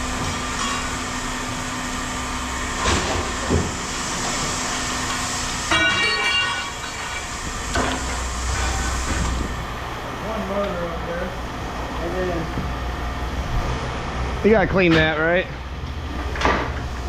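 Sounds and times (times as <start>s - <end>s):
machinery rumbling: 2.5s - 17.0s.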